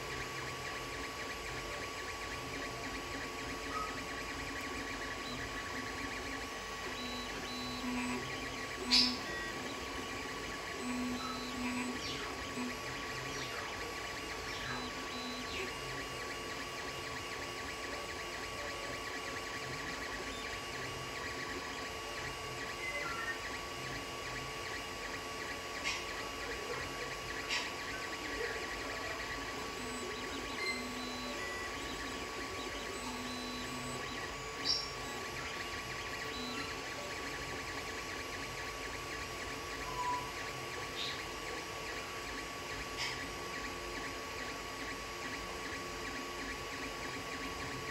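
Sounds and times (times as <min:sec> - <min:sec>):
cooling fans humming: 0:00.0 - 0:47.9
stepper motors whining: 0:00.0 - 0:47.9.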